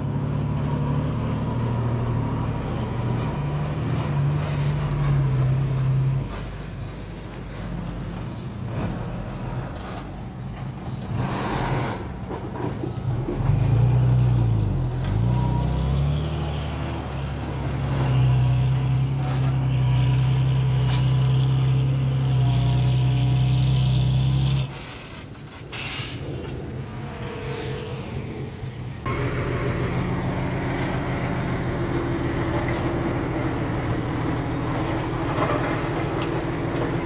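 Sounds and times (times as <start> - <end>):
heavy diesel engine working hard: 0.0 - 37.0.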